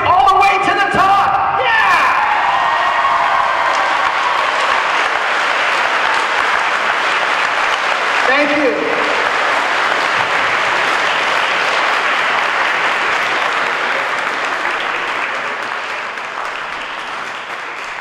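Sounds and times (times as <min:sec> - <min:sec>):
audience applauding and cheering: 0:01.7 - 0:18.0.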